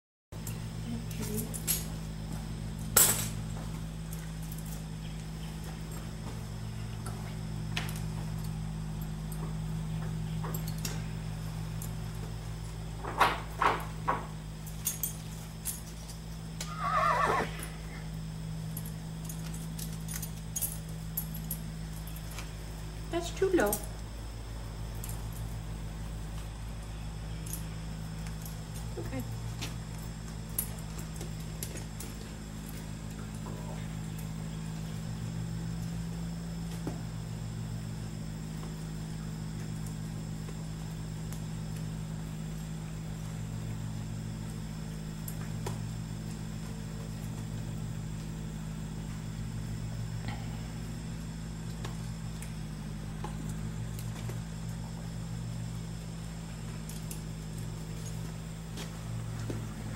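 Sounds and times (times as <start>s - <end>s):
low mechanical hum: 0.3s - 59.9s.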